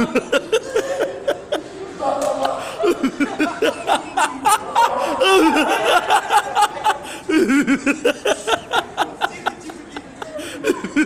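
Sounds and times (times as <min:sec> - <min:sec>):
excited voices: 0:00.0 - 0:11.0
people laughing hard: 0:00.0 - 0:11.0.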